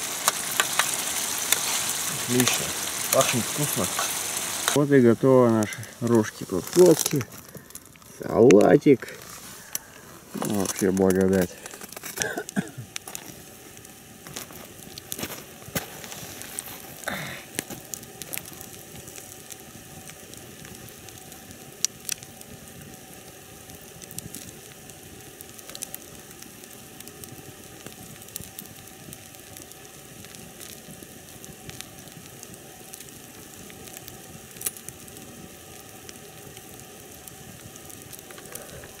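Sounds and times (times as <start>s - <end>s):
campfire flames hissing: 0.0s - 39.0s
logs crackling and popping: 0.0s - 39.0s.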